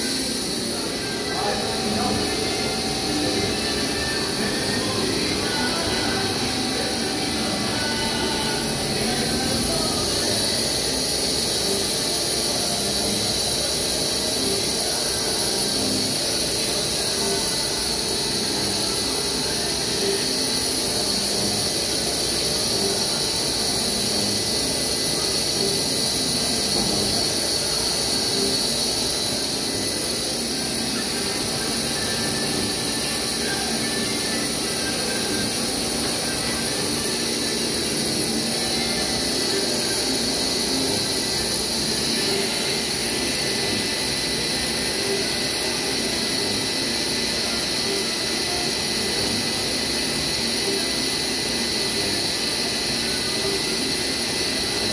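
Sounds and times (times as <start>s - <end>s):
milling machine whine: 0.0s - 54.9s.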